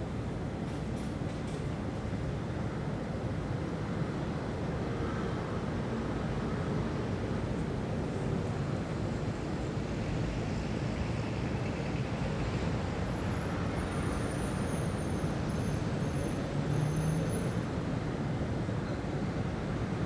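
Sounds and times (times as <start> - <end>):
distant city traffic: 0.0 - 20.0.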